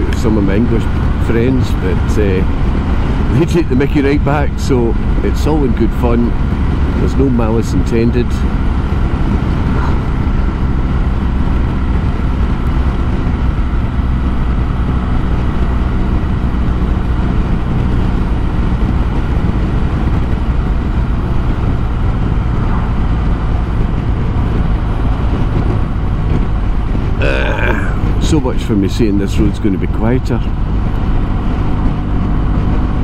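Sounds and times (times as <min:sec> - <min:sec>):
motorcycle engine running: 0:00.0 - 0:33.0
road noise: 0:00.0 - 0:33.0
wind rushing: 0:00.0 - 0:33.0.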